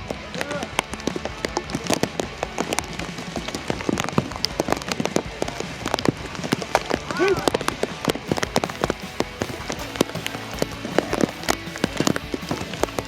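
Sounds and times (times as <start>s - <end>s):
rapid pattering taps: 0.0s - 13.0s.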